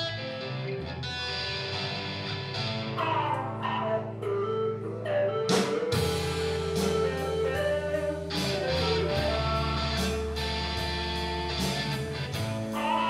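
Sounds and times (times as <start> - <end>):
bass guitar: 0.0 - 13.0
drums: 0.0 - 13.0
electric guitar lines: 0.0 - 13.0.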